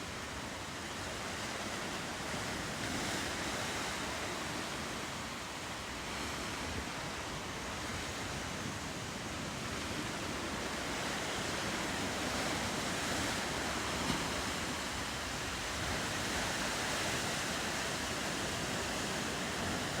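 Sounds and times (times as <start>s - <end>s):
ocean waves and surf: 0.0s - 20.0s.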